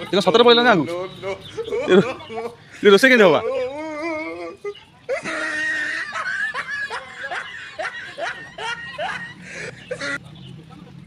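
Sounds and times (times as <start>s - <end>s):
person laughing: 1.3s - 10.2s.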